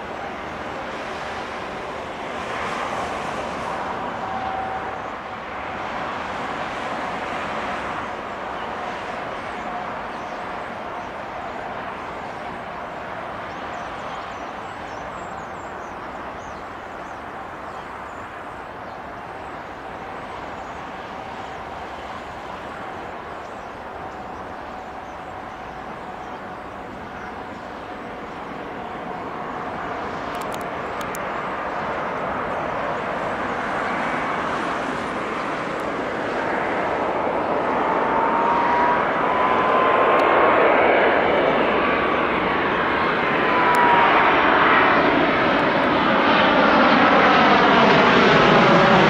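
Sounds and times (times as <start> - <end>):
jet engine rush and whine: 0.0 - 49.0.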